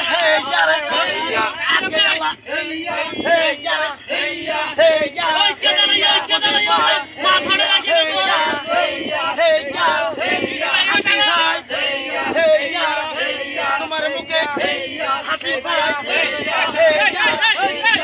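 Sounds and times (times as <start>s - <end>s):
men chanting together: 0.0s - 18.0s.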